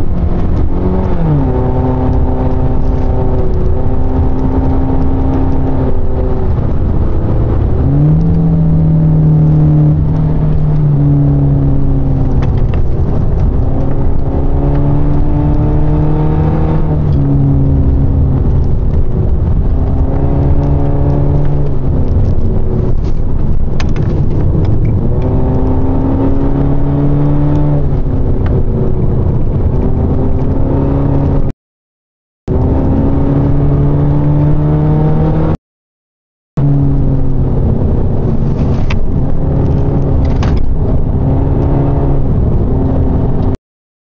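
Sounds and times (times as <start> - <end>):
car engine revving: 0.0 - 31.5, 32.5 - 35.6, 36.6 - 43.6
road noise: 0.0 - 31.5, 32.5 - 35.6, 36.6 - 43.6.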